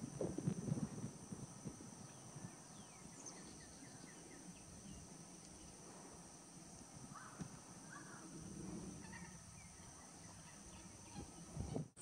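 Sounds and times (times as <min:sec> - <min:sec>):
high insect whine: 0:00.0 - 0:12.0.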